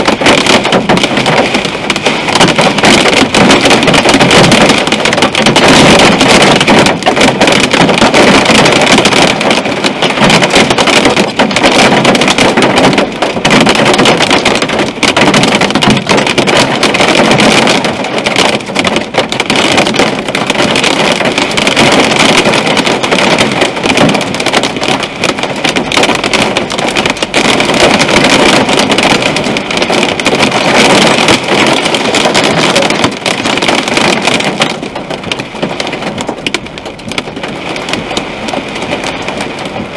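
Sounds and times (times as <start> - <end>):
hail and rain drumming on car roof: 0.0 - 39.9.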